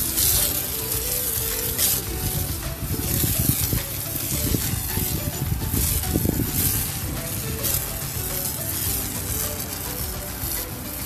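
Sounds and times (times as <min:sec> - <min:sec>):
hose spray hitting pavement: 0:00.0 - 0:11.0.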